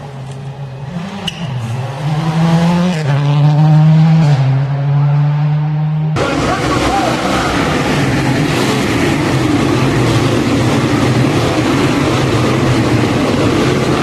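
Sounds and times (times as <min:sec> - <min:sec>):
racing engines: 0:00.0 - 0:14.0.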